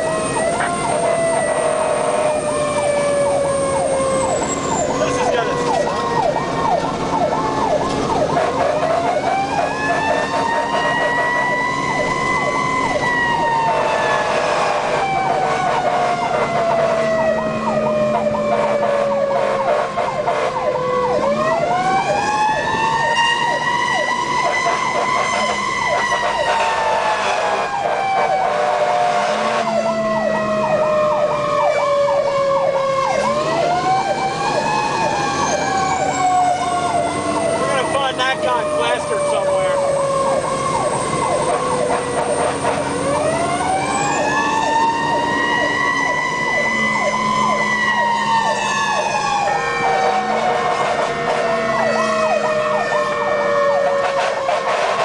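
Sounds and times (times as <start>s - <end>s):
faster wavering siren: 0.0s - 55.0s
fire engine siren wailing: 0.0s - 55.0s.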